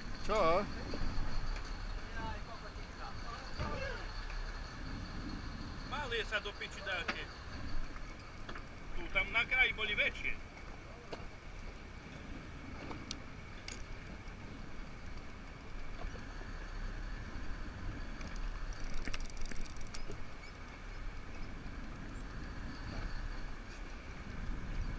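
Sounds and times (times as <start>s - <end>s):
wind: 0.0s - 24.9s
sea noise: 2.9s - 24.9s.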